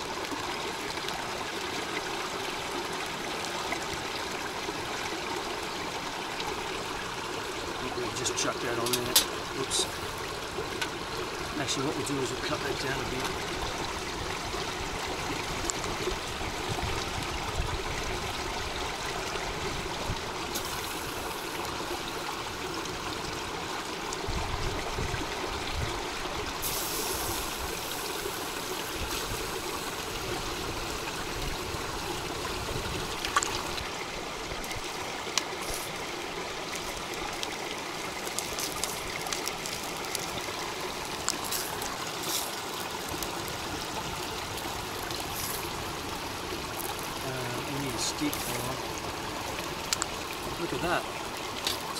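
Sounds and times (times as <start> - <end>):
creek running over rocks: 0.0 - 51.9.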